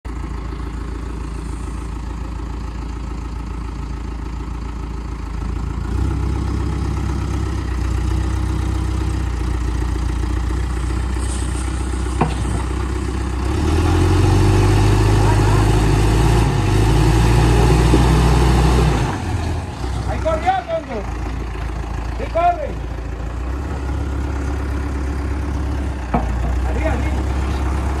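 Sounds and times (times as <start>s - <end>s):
diesel engine revving: 5.3s - 28.0s.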